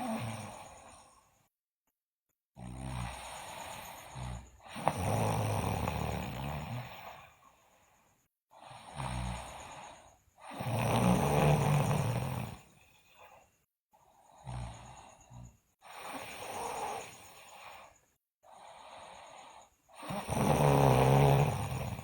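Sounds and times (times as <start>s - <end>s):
girl snoring loudly: 0.0s - 1.2s, 2.6s - 7.4s, 8.5s - 13.4s, 14.1s - 22.0s.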